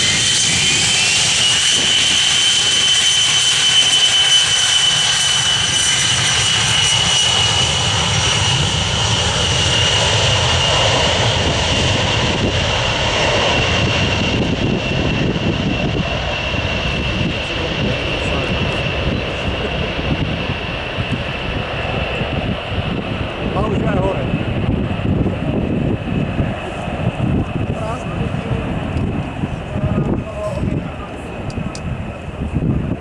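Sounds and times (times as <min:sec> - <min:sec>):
jet engines roaring with high whine: 0:00.0 - 0:33.0.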